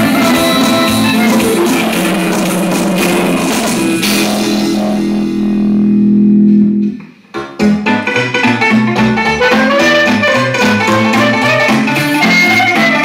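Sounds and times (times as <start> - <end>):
electronic keyboard music: 0.0 - 13.0.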